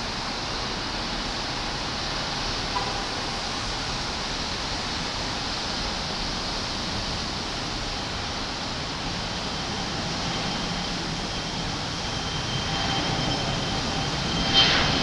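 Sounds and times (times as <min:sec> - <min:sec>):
distant jet engine rushing: 0:00.0 - 0:15.0.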